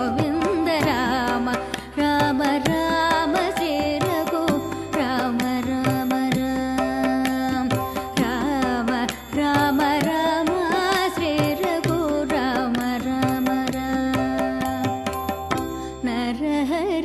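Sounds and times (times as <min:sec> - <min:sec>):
keyboard: 0:00.0 - 0:17.0
person singing devotional song: 0:00.0 - 0:17.0.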